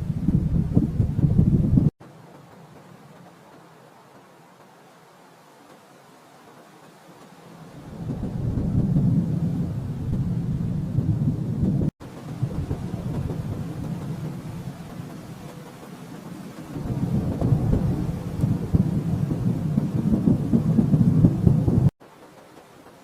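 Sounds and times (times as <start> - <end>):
thunder rumbling: 0.0 - 4.1, 7.6 - 22.0.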